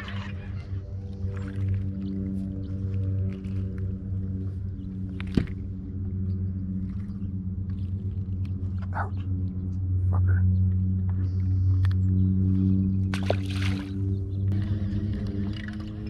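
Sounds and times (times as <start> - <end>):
electric trolling motor humming: 0.0 - 16.0.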